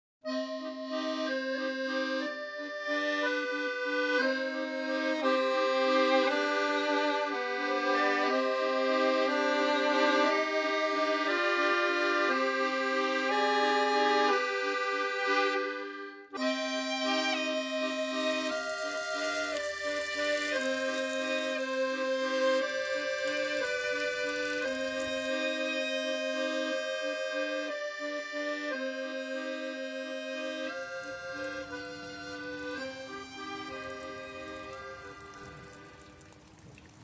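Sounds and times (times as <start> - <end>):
instrumental background music: 0.3 - 36.4.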